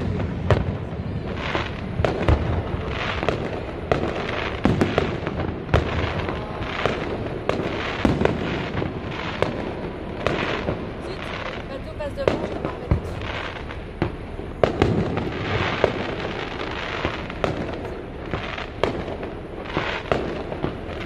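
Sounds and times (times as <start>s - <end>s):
fireworks bursting with sharp bangs: 0.0s - 21.0s
fireworks crackling: 0.0s - 21.0s.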